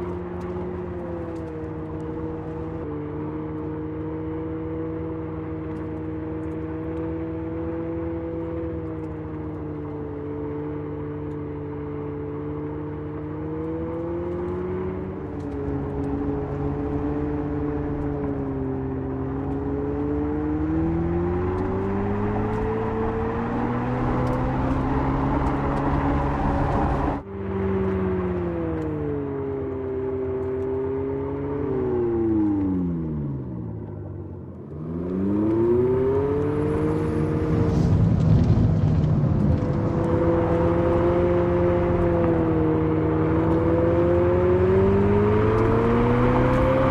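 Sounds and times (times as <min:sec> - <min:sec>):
tyre and road noise: 0:00.0 - 0:46.9.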